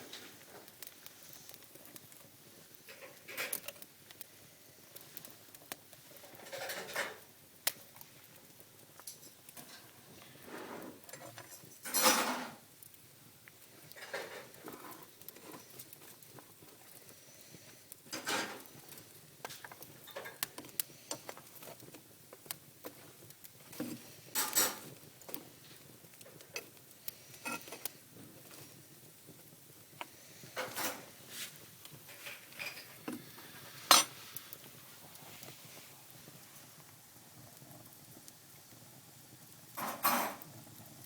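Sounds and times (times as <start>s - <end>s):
faint hiss: 0.0s - 41.0s
wood fire crackling: 0.0s - 41.0s.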